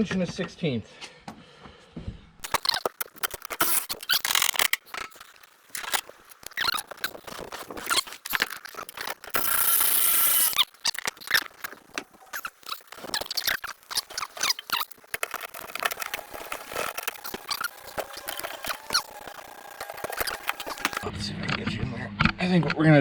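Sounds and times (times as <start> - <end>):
bolts squeaking and squealing: 2.4 - 21.1
wrench clicking and scraping metal: 2.4 - 21.1.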